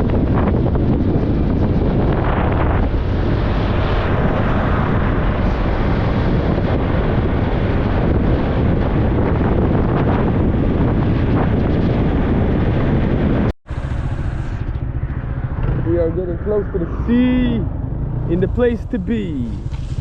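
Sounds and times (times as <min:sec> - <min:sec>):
motorbike running: 0:00.0 - 0:20.0
wind rushing over microphone: 0:00.0 - 0:20.0.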